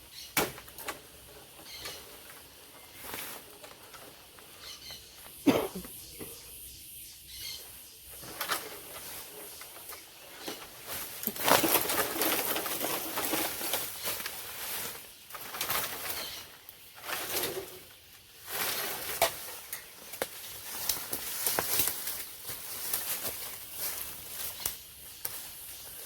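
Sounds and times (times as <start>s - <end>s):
rustling noise: 0.5s - 26.0s.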